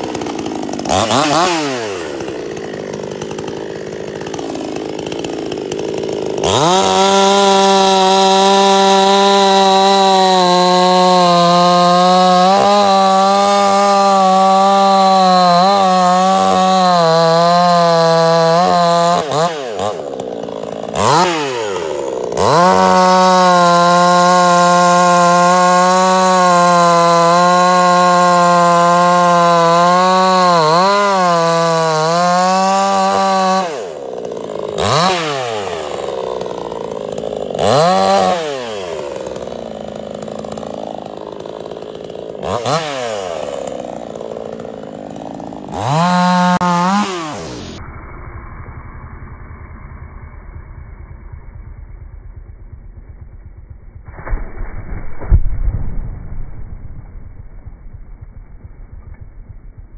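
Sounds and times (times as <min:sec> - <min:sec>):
chainsaw cutting wood: 0:00.0 - 0:47.8, 0:51.6 - 0:59.9
chainsaw idling and revving: 0:00.0 - 0:47.8, 0:50.5 - 0:54.4, 0:57.3 - 0:59.9.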